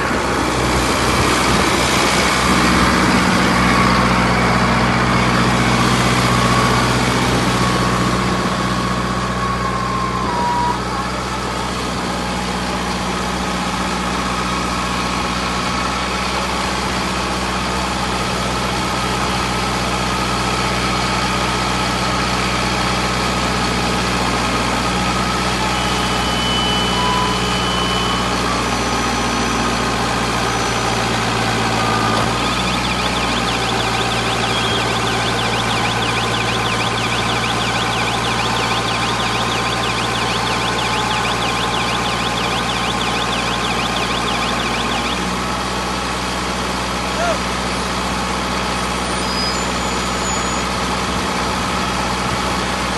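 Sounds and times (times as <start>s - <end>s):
baler machine drone: 0.0s - 49.4s.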